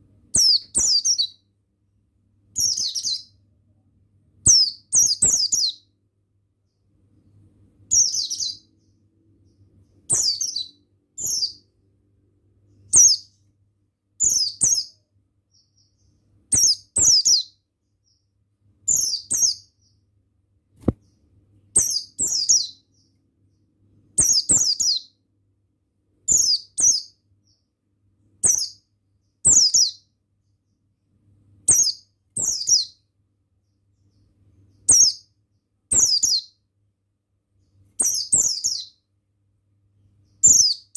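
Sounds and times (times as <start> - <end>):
bird chirping: 0.3 - 1.6, 2.4 - 25.3, 26.1 - 36.7, 37.5 - 39.2, 40.0 - 40.9.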